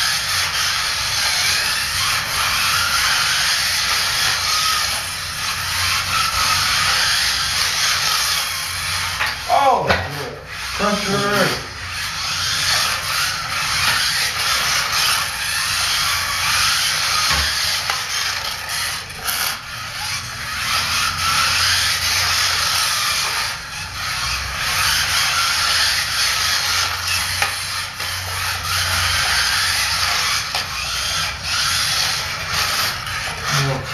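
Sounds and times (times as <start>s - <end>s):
small rc car motors whirring: 0.0s - 33.9s.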